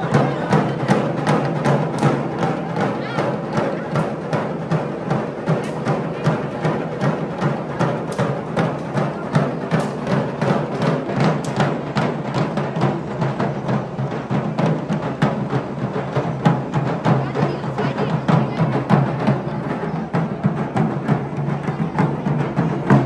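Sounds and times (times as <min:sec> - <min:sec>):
music with fast drumbeat: 0:00.0 - 0:23.0.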